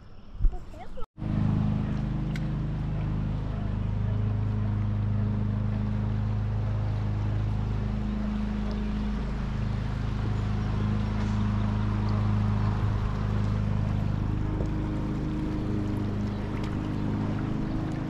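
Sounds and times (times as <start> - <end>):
low motor-like hum: 0.1 - 18.0.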